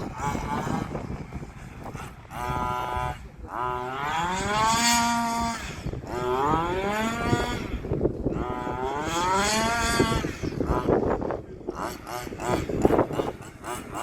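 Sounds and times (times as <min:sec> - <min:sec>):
small two-stroke engine revving: 0:00.0 - 0:14.0.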